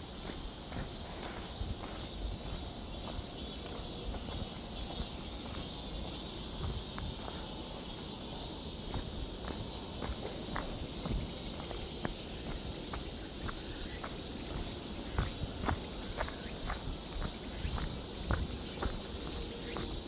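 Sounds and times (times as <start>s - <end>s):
high-pitched insect chorus: 0.0s - 20.0s
footsteps on forest floor: 0.1s - 20.0s.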